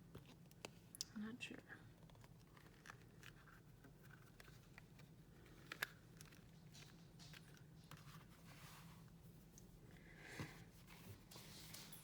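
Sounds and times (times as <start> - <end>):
soft clicks and rustles of packaging: 0.0 - 12.0.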